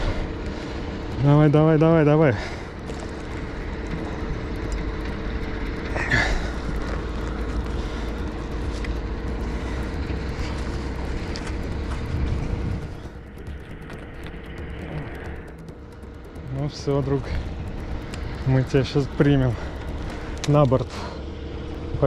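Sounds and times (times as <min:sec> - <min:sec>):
faint steady hum: 0:00.0 - 0:22.0
low engine-like drone: 0:00.0 - 0:22.0.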